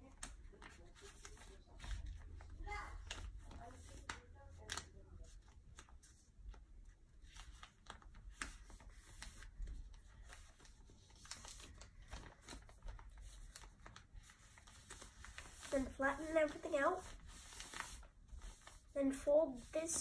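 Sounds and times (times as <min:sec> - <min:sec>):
paper crinkling as folded: 0:00.0 - 0:20.0.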